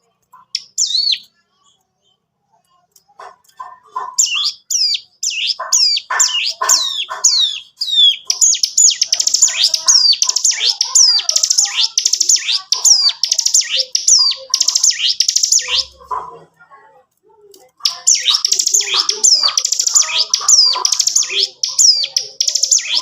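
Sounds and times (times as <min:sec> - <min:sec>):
bird singing: 0:00.4 - 0:01.4, 0:03.2 - 0:16.1, 0:17.8 - 0:23.0.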